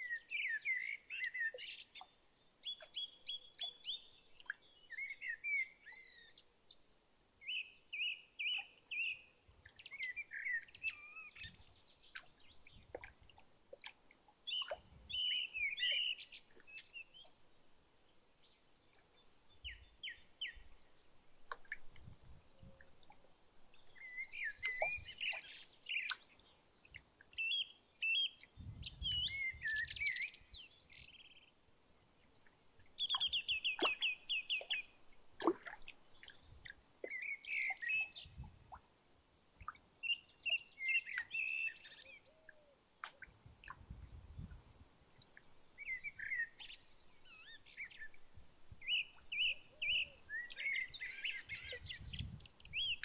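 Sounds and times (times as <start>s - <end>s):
songbirds chirping and whistling: 0.0s - 6.5s, 7.4s - 13.1s, 14.5s - 17.4s, 18.4s - 31.5s, 32.9s - 38.5s, 39.6s - 43.8s, 45.2s - 48.2s, 48.8s - 53.0s.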